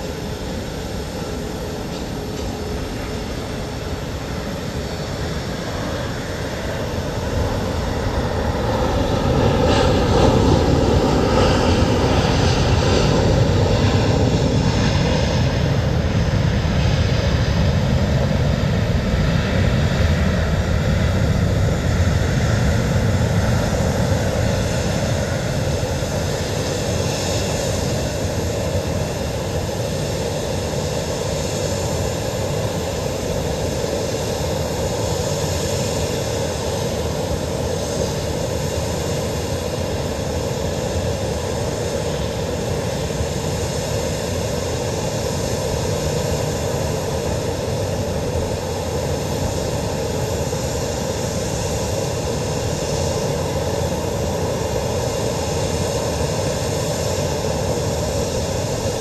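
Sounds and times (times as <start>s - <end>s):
aircraft engines with faint whine: 0.0s - 59.0s.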